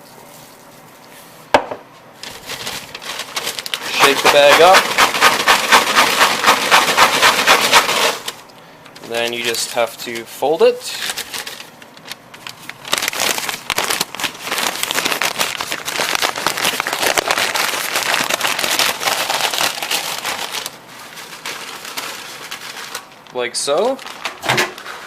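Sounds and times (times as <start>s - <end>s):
paper bag crinkling: 2.2s - 8.4s, 9.1s - 25.0s.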